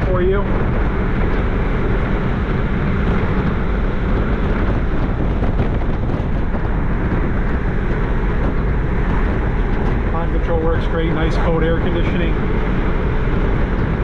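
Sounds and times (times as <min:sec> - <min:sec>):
car engine cruising: 0:00.0 - 0:14.0
road noise: 0:00.0 - 0:14.0
wind noise: 0:00.0 - 0:14.0.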